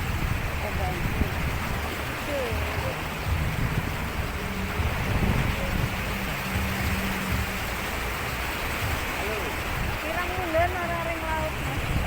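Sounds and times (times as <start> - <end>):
sea surf rushing: 0.0 - 12.0
wind buffeting microphone: 0.0 - 12.0.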